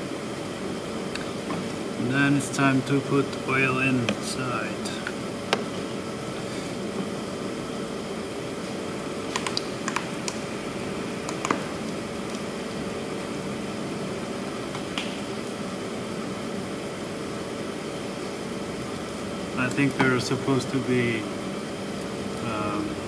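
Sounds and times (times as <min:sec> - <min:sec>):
workshop hum: 0:00.0 - 0:23.0.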